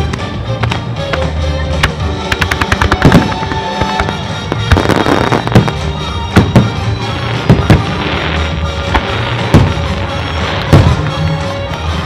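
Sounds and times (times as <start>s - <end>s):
fireworks crackling pops: 0.0s - 12.0s
music from loudspeakers: 0.0s - 12.0s.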